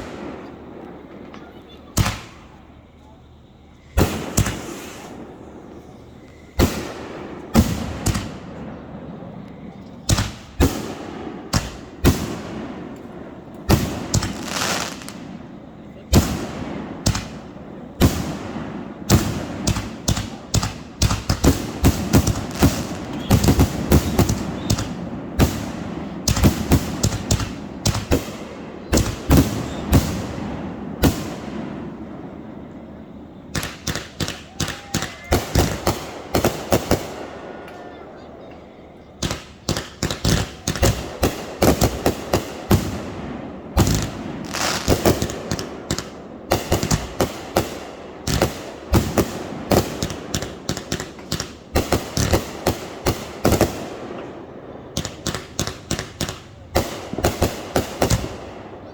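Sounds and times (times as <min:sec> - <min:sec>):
fireworks bangs with rumble: 0:00.0 - 0:58.9.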